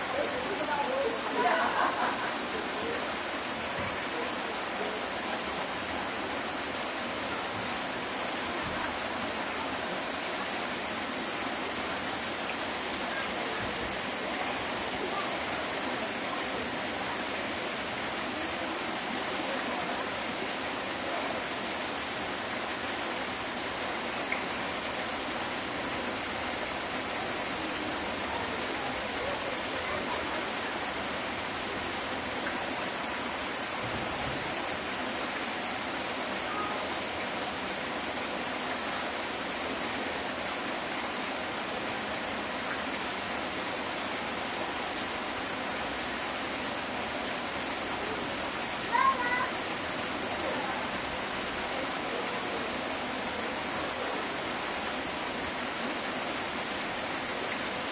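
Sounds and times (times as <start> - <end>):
running water rushing: 0.0 - 57.9.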